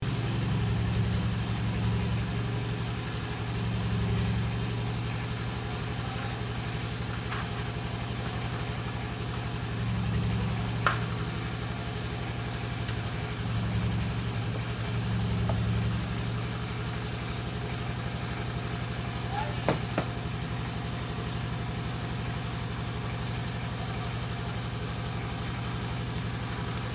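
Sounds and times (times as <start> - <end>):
engine idling: 0.0 - 26.9.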